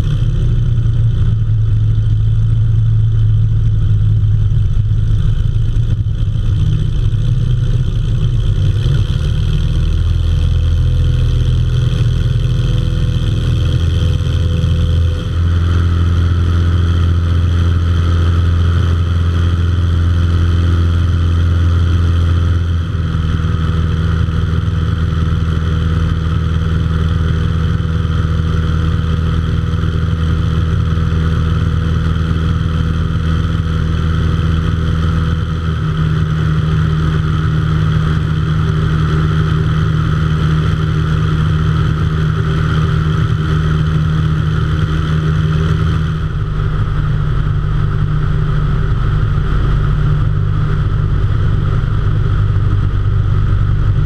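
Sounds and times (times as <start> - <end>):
propeller engine drone: 0.0 - 54.0.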